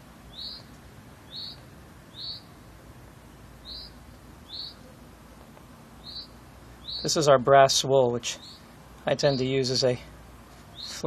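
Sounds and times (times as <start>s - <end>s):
bird chirping: 0.2s - 7.4s, 8.2s - 10.0s, 10.6s - 11.0s.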